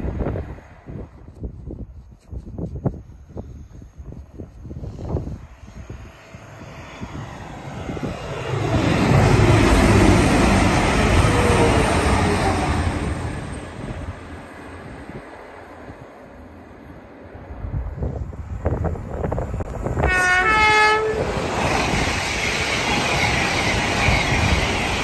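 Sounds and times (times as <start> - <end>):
passenger train passing: 0.0 - 1.8, 4.1 - 25.0.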